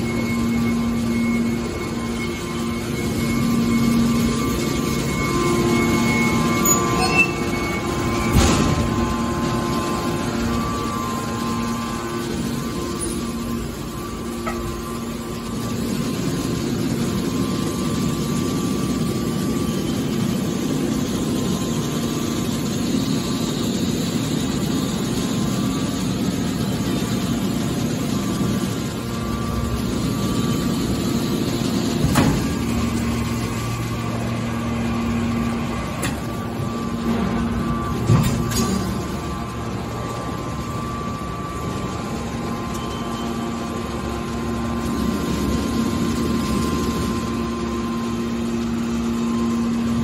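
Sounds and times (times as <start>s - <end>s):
hydraulic power unit humming: 0.0s - 50.0s.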